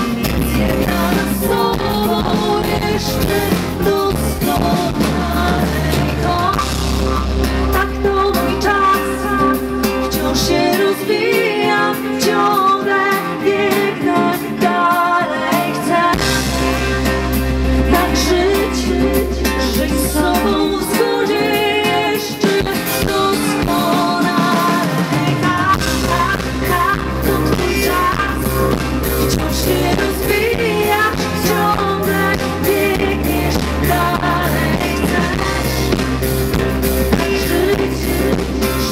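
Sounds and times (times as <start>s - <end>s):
woman singing with vibrato: 0.0s - 17.0s, 17.6s - 38.9s
acoustic guitar: 0.0s - 38.9s
electric bass: 0.0s - 38.9s.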